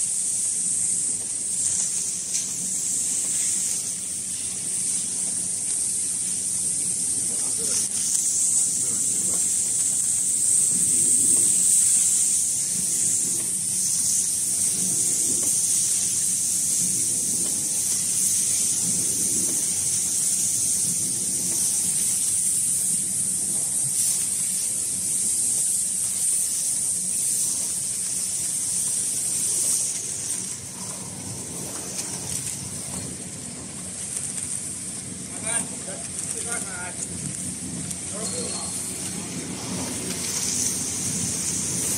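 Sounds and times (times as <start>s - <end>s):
packing machine hissing: 0.0s - 41.9s.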